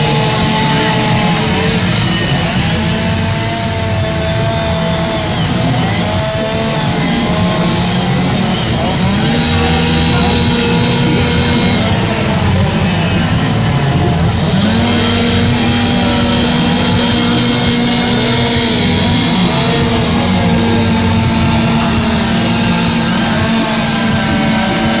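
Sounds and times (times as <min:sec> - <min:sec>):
chainsaw running at high revs: 0:00.0 - 0:25.0.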